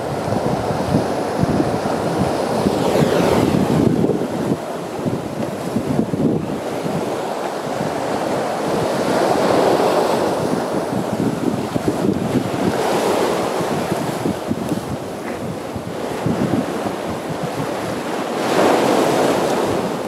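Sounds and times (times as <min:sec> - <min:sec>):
surf breaking over boulders: 0:00.2 - 0:20.0.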